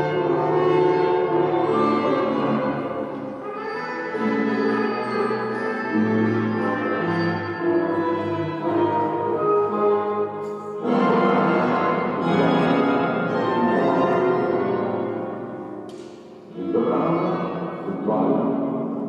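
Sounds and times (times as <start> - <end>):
orchestra playing organ-like chords: 0.0 - 19.0.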